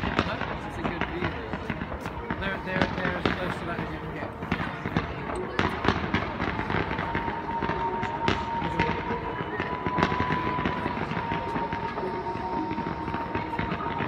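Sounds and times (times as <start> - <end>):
firework bangs: 0.0 - 14.0
fireworks crackling and popping: 0.0 - 14.0.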